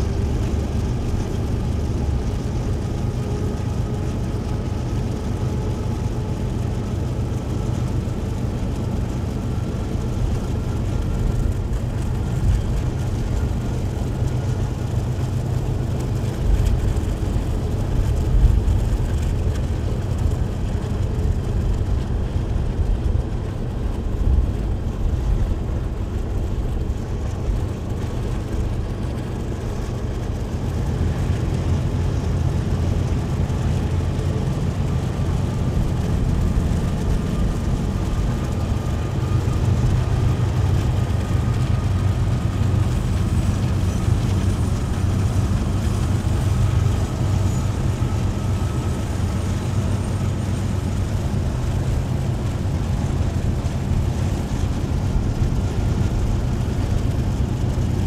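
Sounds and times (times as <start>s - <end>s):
car road noise: 0.0s - 58.0s
diesel locomotives running: 0.0s - 58.0s.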